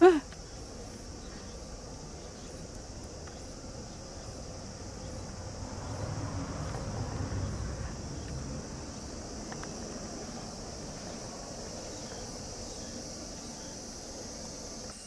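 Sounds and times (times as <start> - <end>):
insects droning: 0.0 - 15.0
wind rumble on microphone: 0.4 - 14.8.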